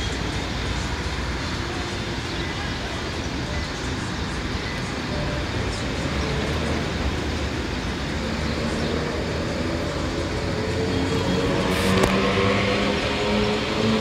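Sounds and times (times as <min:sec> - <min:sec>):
train rumbling on tracks: 0:00.0 - 0:14.0.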